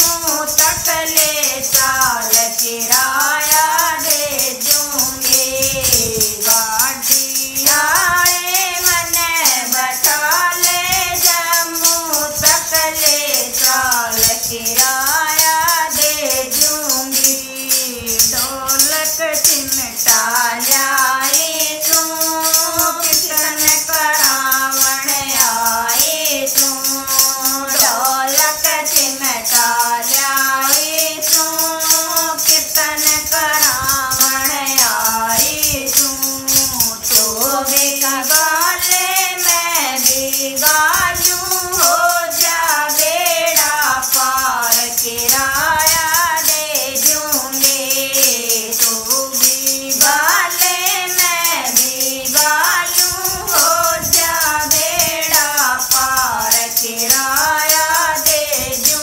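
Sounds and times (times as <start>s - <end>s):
tambourines shaken: 0.0s - 59.0s
women singing devotional song: 0.0s - 59.0s.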